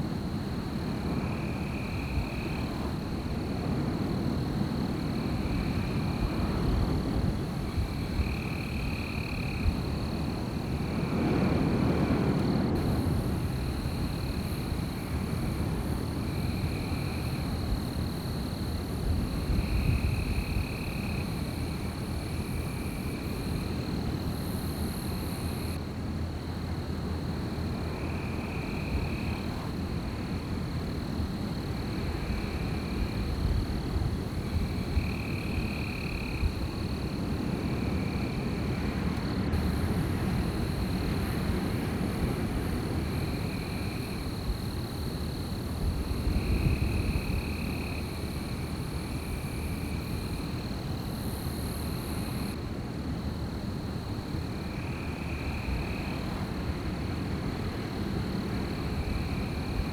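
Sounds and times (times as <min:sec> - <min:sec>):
wind blowing: 0:00.0 - 0:25.8, 0:27.7 - 0:52.6.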